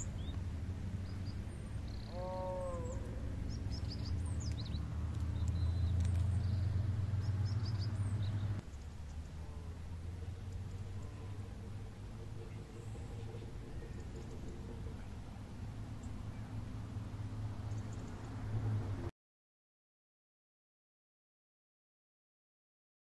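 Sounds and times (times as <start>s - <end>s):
small birds chirping: 0.0s - 18.9s
steady low rumble: 0.0s - 19.1s.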